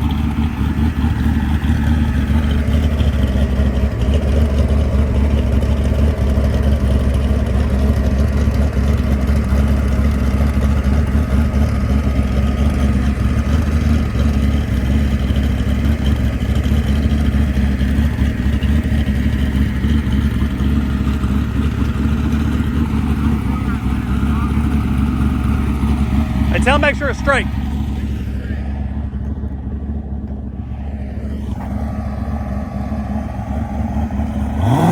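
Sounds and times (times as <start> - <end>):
race car engine idling: 0.0 - 34.9.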